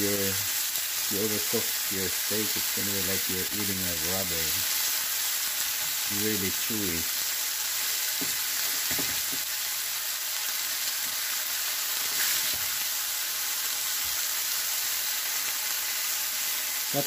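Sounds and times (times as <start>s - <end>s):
steaks sizzling in a frying pan: 0.0s - 17.0s.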